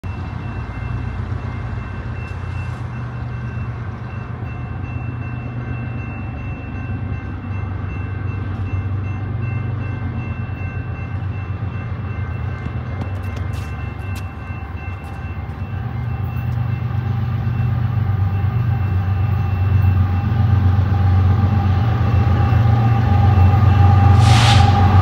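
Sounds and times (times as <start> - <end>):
diesel locomotive engine rumble: 0.0 - 25.0.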